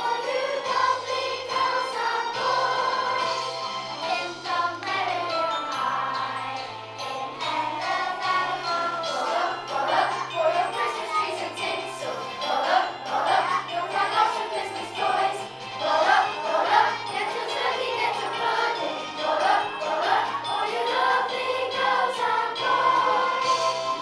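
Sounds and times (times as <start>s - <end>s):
children's choir singing: 0.0s - 24.0s
children's choir singing a christmas song: 0.0s - 24.0s.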